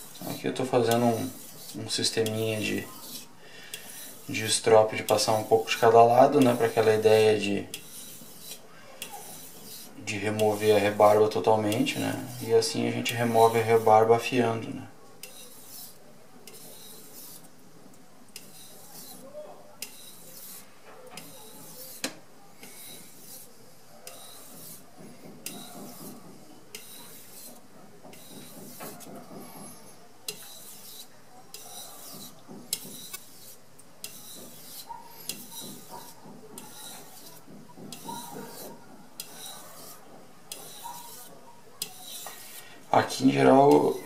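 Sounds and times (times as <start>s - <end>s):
knife scraping on whetstone: 0.0s - 17.5s, 18.4s - 44.0s.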